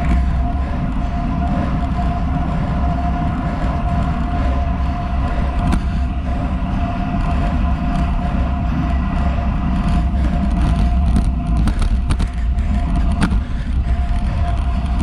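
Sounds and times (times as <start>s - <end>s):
bike tyre noise on asphalt: 0.0s - 15.0s
steady high hum: 0.0s - 15.0s
wind buffeting microphone: 0.0s - 15.0s.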